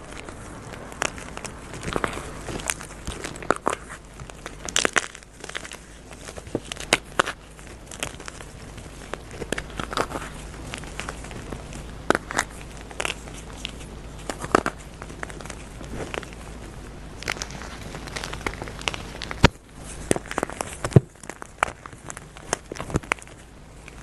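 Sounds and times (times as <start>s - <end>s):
chalk crunching and crumbling: 0.0s - 24.0s.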